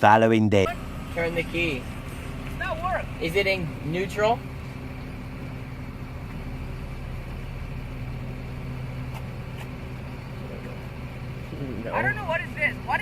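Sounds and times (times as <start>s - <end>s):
vehicle engine idling: 0.6s - 13.0s.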